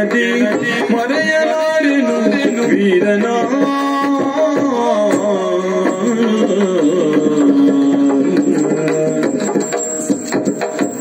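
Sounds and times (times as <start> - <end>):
person singing long notes: 0.0 - 9.6
hand drum strokes: 0.0 - 11.0.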